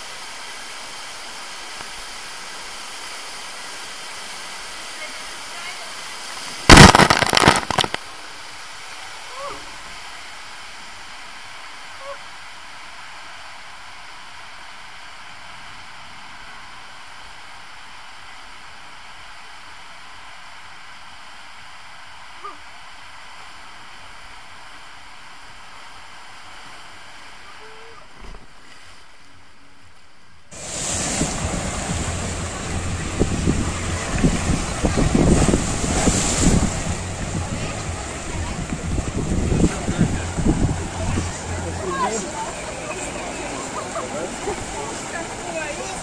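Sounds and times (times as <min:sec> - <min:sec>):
water rushing down slide tube: 0:00.0 - 0:28.9, 0:30.5 - 0:46.0.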